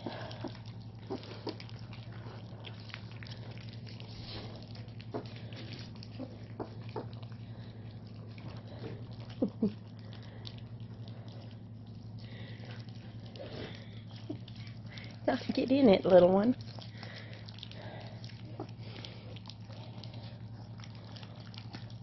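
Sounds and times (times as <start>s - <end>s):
puppies chewing and smacking: 0.0s - 22.0s
steady low hum: 0.0s - 22.0s.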